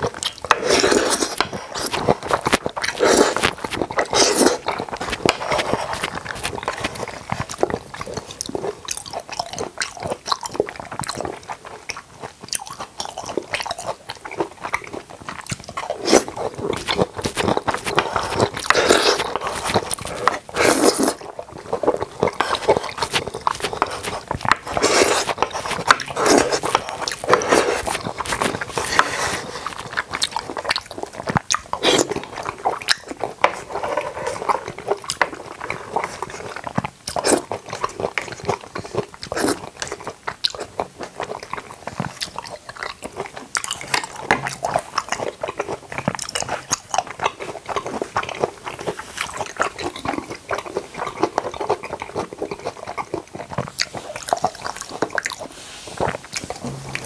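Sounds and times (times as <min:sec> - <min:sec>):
crunchy chewing: 0:00.0 - 0:57.0.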